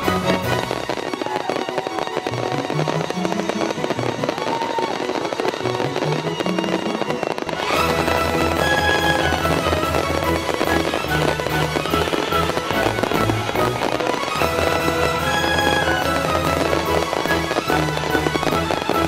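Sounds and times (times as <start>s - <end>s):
fireworks crackling and popping: 0.0s - 19.0s
instrumental music: 0.0s - 19.0s.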